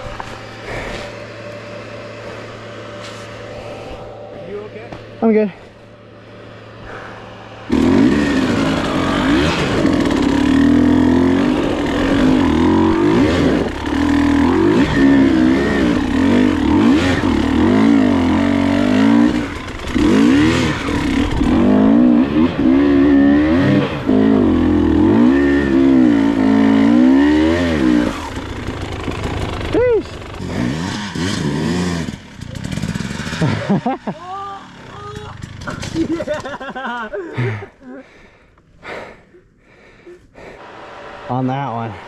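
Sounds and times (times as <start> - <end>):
dirt bike engine revving: 0.0 - 37.1, 40.4 - 42.0.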